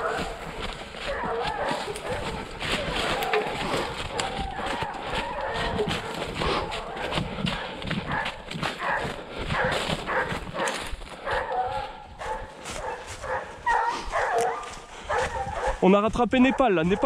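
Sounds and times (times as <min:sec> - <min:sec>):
footsteps on rough ground: 0:00.0 - 0:17.0
hound barking: 0:00.0 - 0:17.0.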